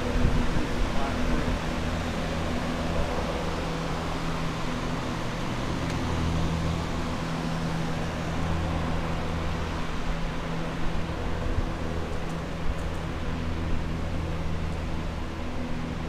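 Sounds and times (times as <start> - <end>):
fan rush: 0.0 - 16.0.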